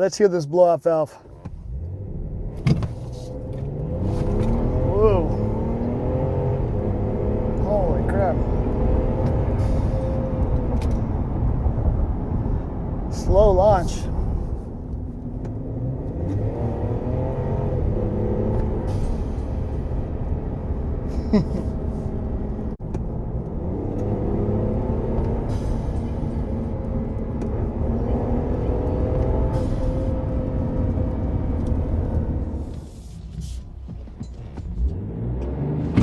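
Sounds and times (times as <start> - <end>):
pickup truck engine accelerating: 1.5 - 36.0.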